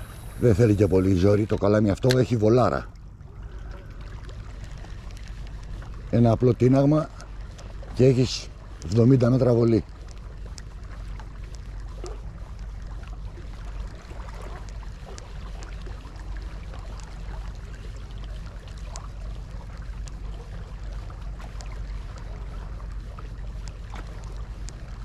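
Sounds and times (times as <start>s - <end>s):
faint clicks and ticks: 0.0s - 25.0s
small waves lapping on rocks: 0.0s - 25.0s.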